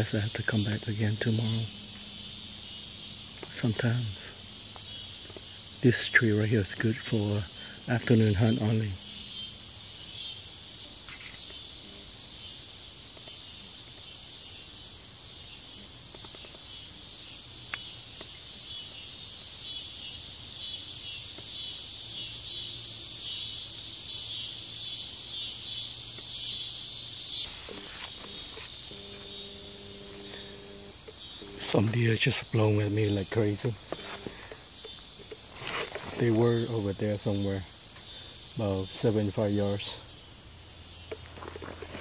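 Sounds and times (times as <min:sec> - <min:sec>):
crickets and insects shrilling: 0:00.0 - 0:42.0.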